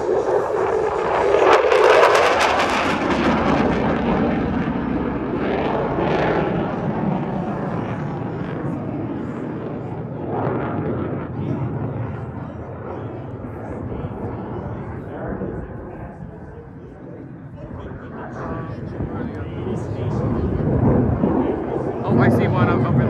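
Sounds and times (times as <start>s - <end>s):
fighter jet passing low: 0.0s - 23.0s.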